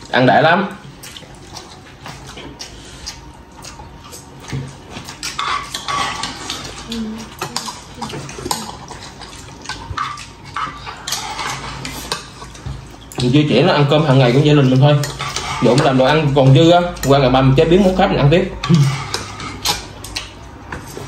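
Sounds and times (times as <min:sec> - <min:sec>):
chewing and slurping: 0:00.8 - 0:21.0.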